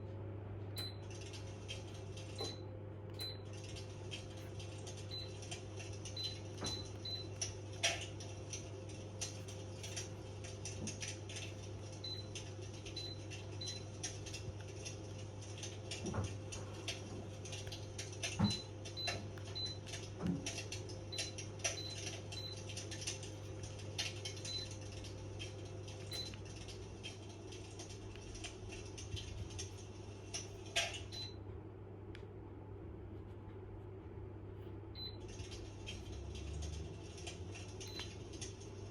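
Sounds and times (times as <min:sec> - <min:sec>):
fan heater humming: 0:00.0 - 0:38.9
light ticking and clicking: 0:00.7 - 0:31.3, 0:35.0 - 0:38.9.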